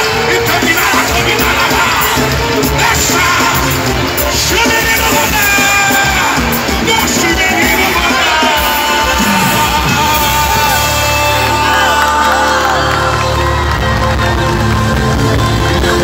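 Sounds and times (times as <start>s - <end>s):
crowd calling out: 0.0s - 16.0s
worship band music: 0.0s - 16.0s.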